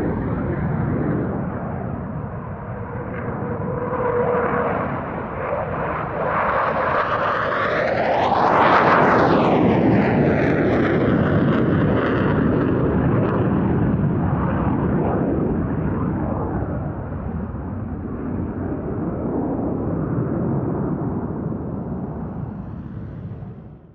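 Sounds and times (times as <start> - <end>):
steady jet noise: 0.0 - 23.9.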